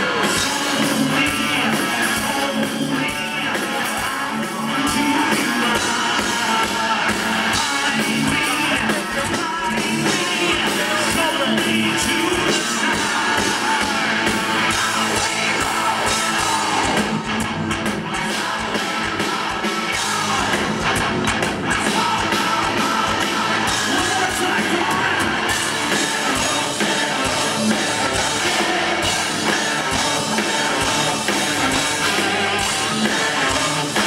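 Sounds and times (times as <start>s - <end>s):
live metal band playing: 0.0s - 34.0s.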